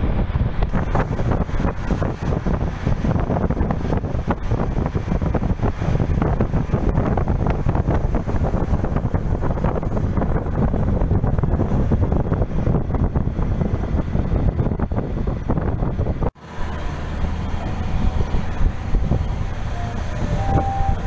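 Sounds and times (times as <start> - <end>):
car road and engine noise: 0.0 - 21.0
wind buffeting microphone: 0.0 - 21.0.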